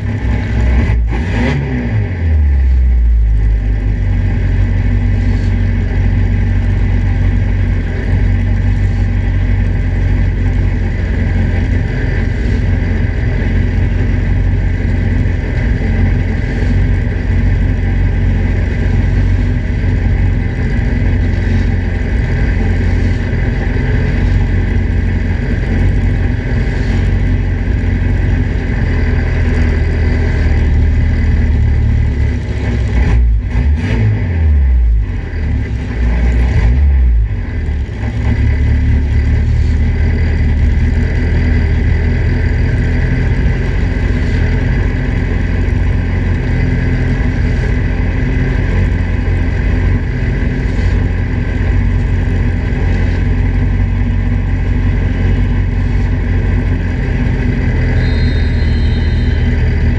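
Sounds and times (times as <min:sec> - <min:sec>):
race car engine idling: 0:00.0 - 0:01.2, 0:02.0 - 0:59.9.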